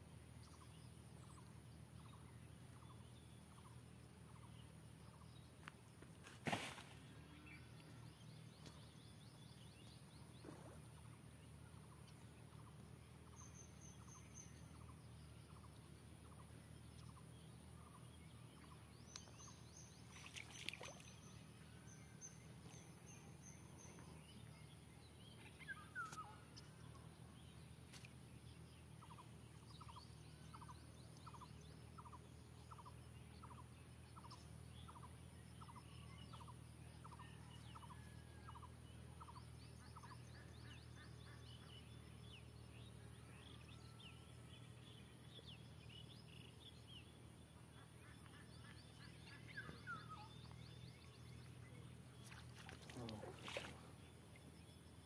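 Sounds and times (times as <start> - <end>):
faint low rumble: 0.0 - 55.0.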